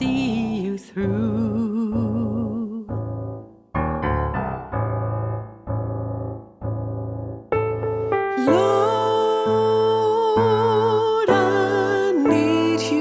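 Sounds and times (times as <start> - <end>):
piano playing slow chords: 1.2 - 13.0.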